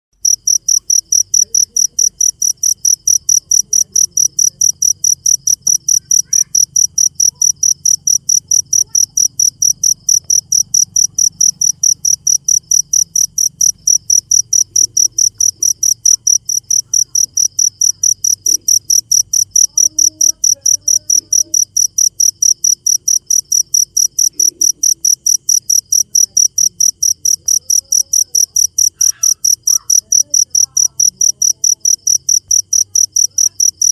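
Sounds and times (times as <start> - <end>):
cricket chirping: 0.2 - 33.9.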